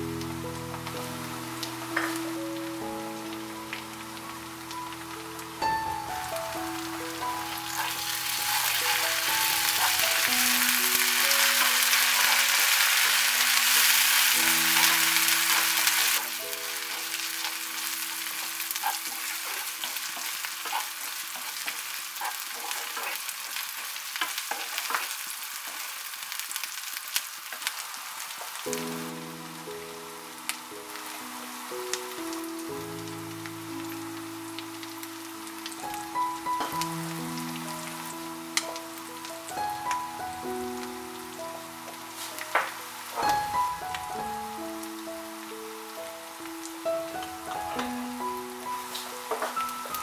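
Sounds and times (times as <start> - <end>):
soft background music: 0.0 - 20.8, 28.7 - 50.0
vegetables sizzling in hot oil: 0.0 - 50.0.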